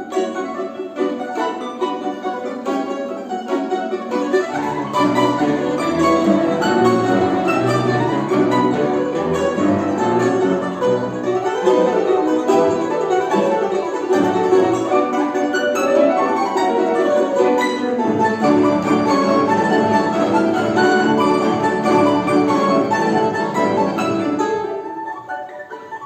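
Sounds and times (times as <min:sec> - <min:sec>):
bowed strings: 0:00.0 - 0:26.0
plucked strings playing quick runs: 0:00.0 - 0:26.0.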